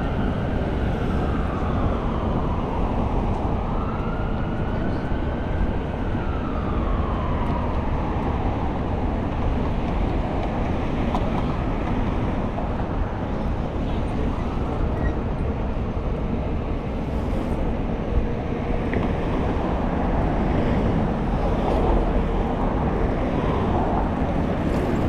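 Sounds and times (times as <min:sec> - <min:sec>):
city traffic rumble: 0:00.0 - 0:25.0
emergency vehicle siren wailing: 0:00.0 - 0:25.0.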